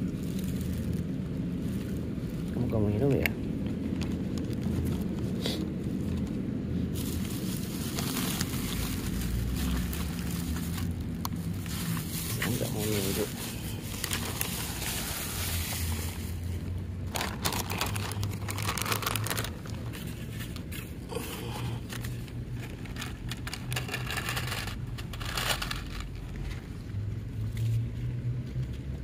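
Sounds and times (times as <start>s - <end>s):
plastic packaging crinkling: 0.0s - 5.2s, 6.9s - 26.8s
low steady hum: 0.0s - 29.0s.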